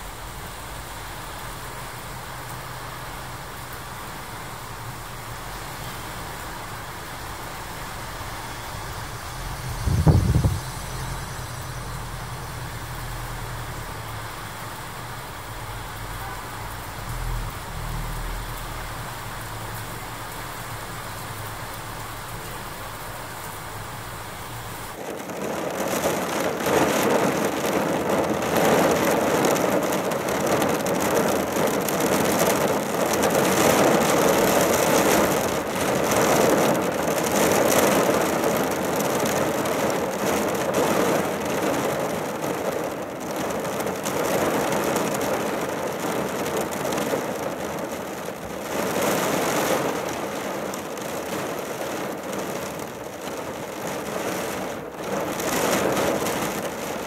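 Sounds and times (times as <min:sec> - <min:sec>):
heavy rain on a car roof: 0:00.0 - 0:57.0.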